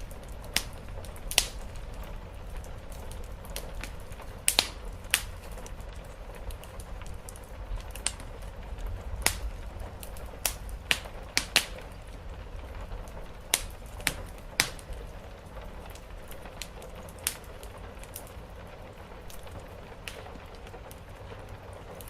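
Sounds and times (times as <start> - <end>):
rain on a roof: 0.0 - 22.0
wood fire crackling and popping: 0.0 - 22.0.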